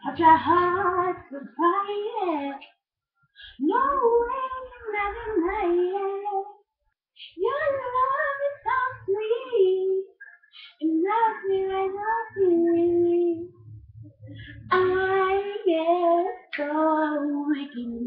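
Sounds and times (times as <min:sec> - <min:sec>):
woman singing unaccompanied: 0:00.0 - 0:02.7, 0:03.4 - 0:06.6, 0:07.2 - 0:13.6, 0:14.5 - 0:18.0.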